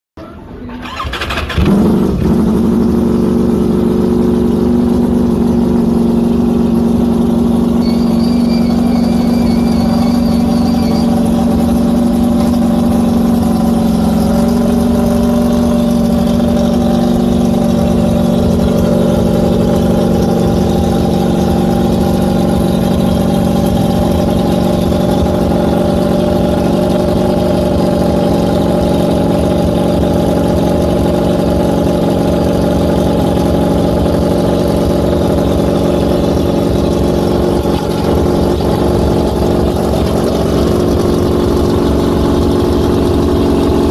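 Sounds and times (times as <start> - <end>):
motorcycle engine idling: 0.4 - 43.9.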